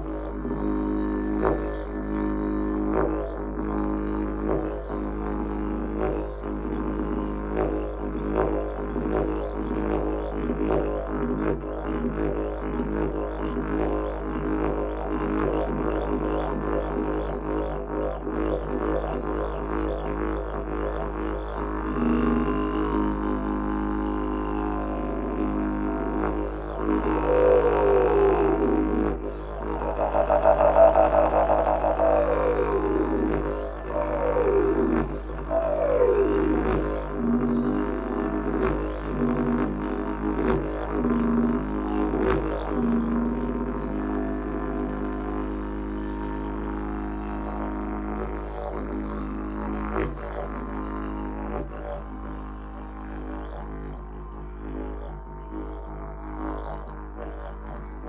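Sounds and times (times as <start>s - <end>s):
didgeridoo drone: 0.0s - 58.0s.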